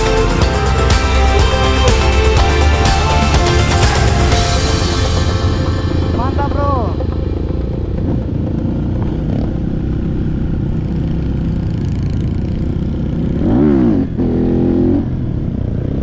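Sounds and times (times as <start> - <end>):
motorcycle engine running and revving: 0.0 - 16.0.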